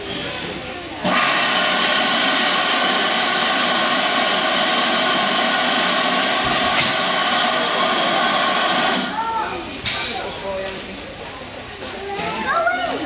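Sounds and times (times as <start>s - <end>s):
steam locomotive hissing: 0.0s - 12.2s.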